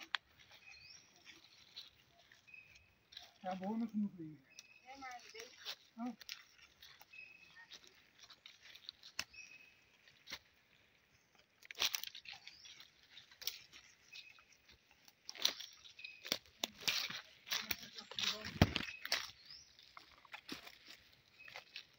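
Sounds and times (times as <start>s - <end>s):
footsteps crunching on dry leaves: 0.0s - 21.9s.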